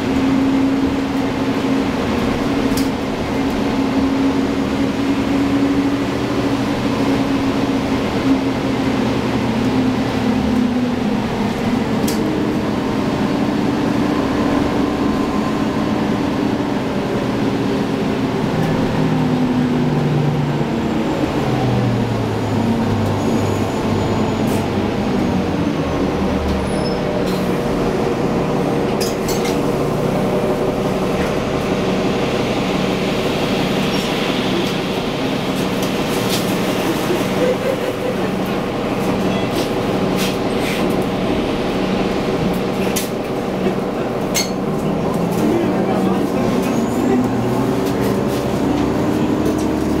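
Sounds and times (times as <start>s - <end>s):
bus engine running: 0.0s - 50.0s.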